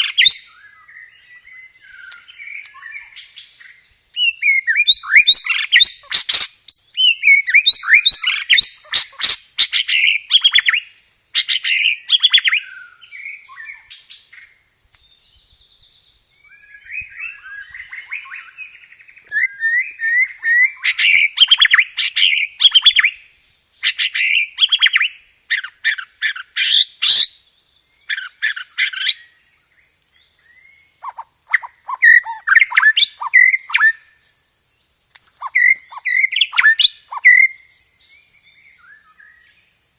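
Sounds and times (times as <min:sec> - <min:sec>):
songbird singing rolling phrases: 0:00.0 - 0:39.9.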